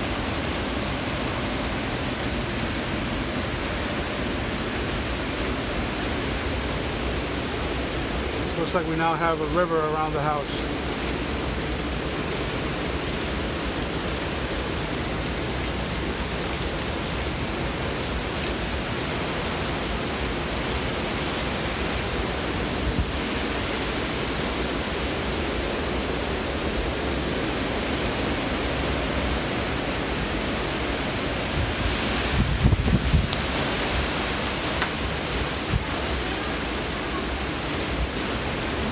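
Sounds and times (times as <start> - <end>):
heavy rain: 0.0 - 38.9
hurricane wind: 0.0 - 38.9.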